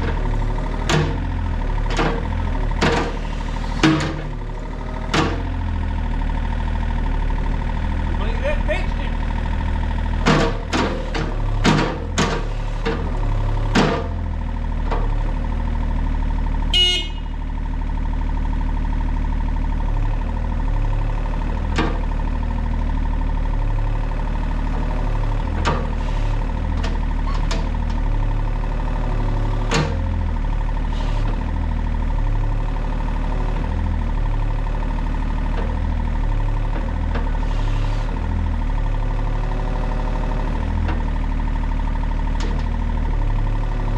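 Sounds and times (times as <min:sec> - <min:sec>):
diesel engine low rumble: 0:00.0 - 0:43.9.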